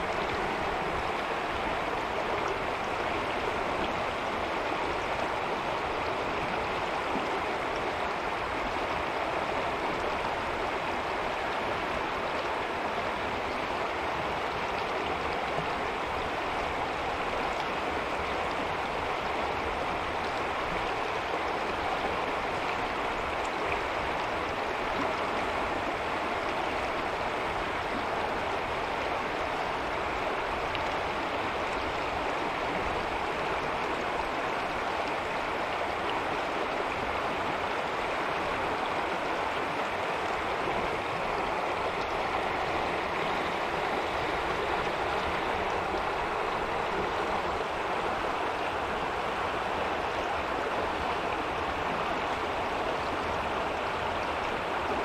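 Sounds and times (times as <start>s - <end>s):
water running over rocks: 0.0s - 55.0s.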